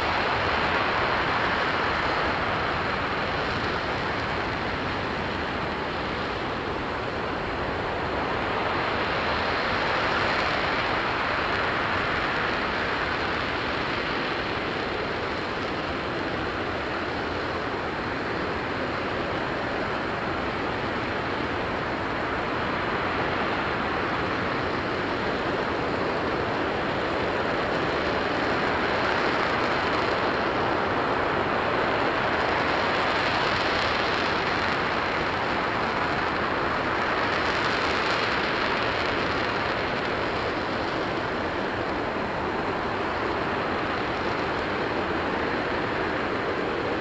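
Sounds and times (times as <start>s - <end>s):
rocket engine roaring: 0.0s - 47.0s.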